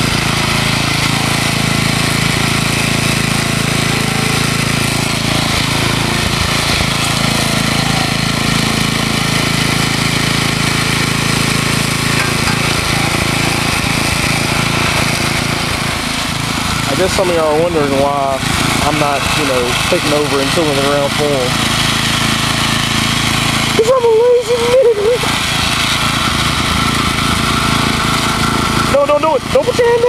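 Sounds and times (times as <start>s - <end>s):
garden tiller engine running: 0.0s - 30.0s.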